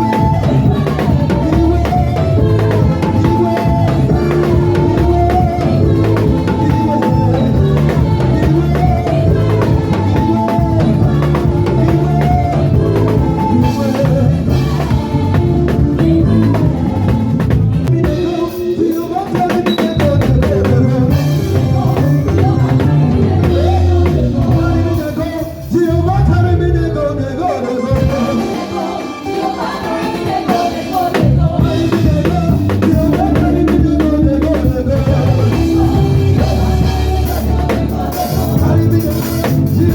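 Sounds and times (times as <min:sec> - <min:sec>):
heavy bass: 0:00.0 - 0:18.5, 0:20.0 - 0:28.6, 0:31.2 - 0:39.9
drum kit: 0:00.0 - 0:26.9, 0:27.8 - 0:39.9
singing: 0:00.0 - 0:39.9
worship band playing: 0:00.0 - 0:39.9.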